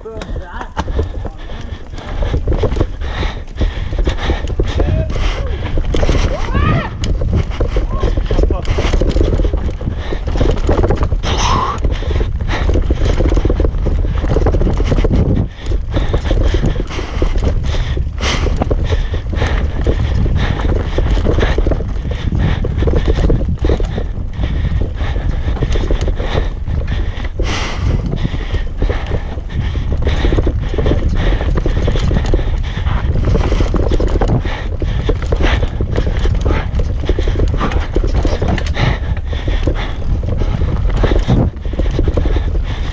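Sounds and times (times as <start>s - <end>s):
bike clattering: 0.0s - 42.9s
tyres rumbling over dirt: 0.0s - 42.9s.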